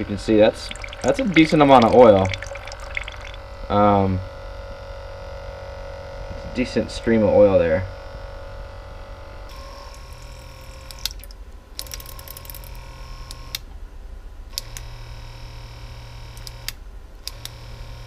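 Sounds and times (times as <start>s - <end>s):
small electric pump humming: 0.0s - 6.1s, 7.6s - 13.6s, 14.6s - 18.0s.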